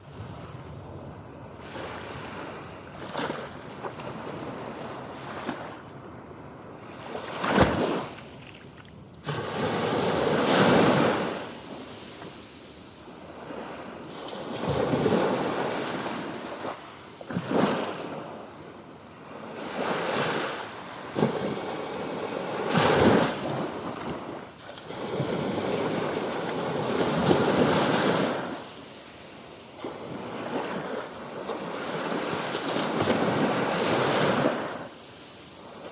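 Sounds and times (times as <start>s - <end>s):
sea waves breaking on a beach: 0.0s - 35.9s.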